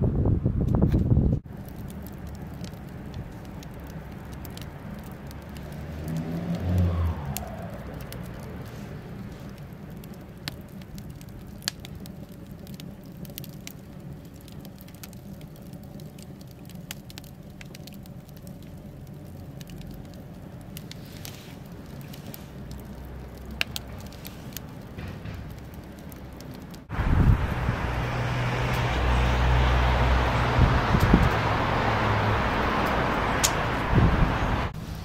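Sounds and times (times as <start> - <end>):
low burner rumble: 0.4 - 35.0
fire popping: 0.7 - 35.0
wood fire crackling: 1.3 - 35.0.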